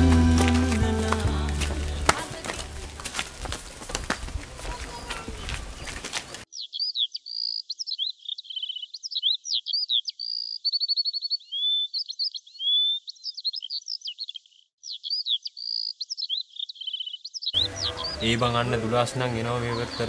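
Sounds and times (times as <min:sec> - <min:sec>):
birds chirping and singing: 0:00.0 - 0:20.0.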